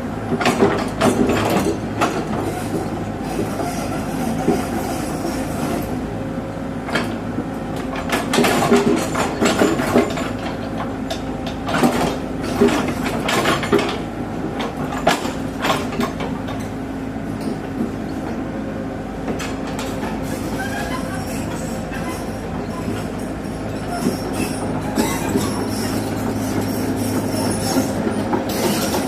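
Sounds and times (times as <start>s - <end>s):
heavy machinery engine humming: 0.0s - 29.0s.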